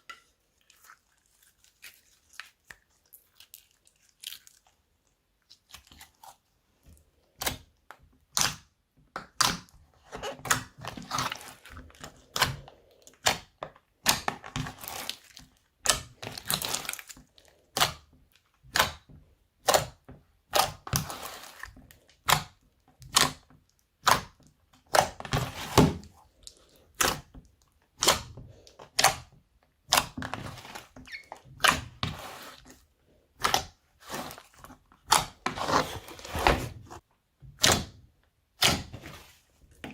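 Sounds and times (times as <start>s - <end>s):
sticky slime squelches: 0.0s - 39.9s.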